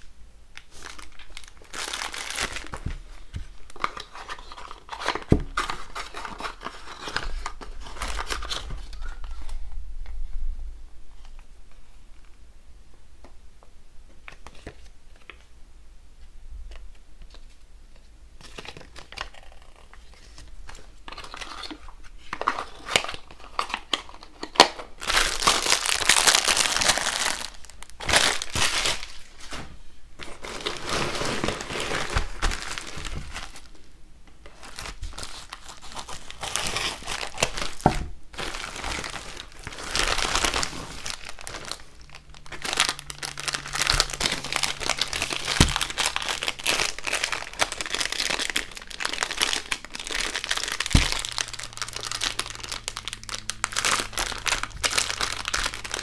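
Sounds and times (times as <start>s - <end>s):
plastic packaging crinkling: 0.6s - 9.6s, 18.4s - 56.0s.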